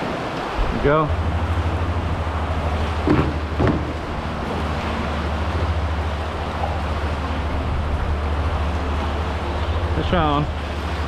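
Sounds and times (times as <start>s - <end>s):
water lapping around pilings: 0.0s - 11.0s
wind buffeting microphone: 0.0s - 11.0s.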